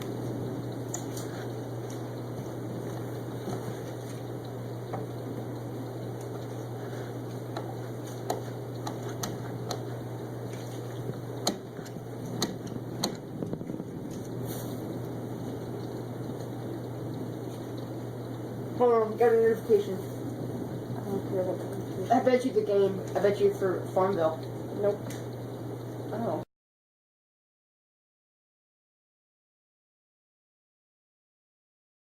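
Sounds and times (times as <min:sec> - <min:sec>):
low hum: 0:00.0 - 0:26.4.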